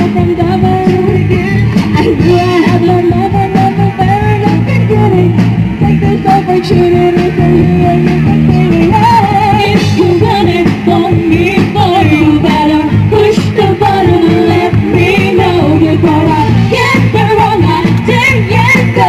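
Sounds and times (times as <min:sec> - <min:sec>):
pop-rock band music: 0:00.0 - 0:19.0.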